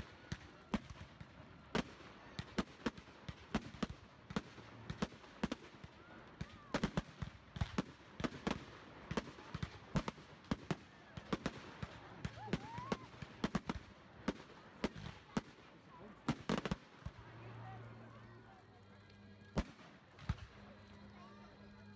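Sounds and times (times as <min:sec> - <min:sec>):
fireworks popping and banging: 0:00.0 - 0:17.6, 0:19.5 - 0:21.0.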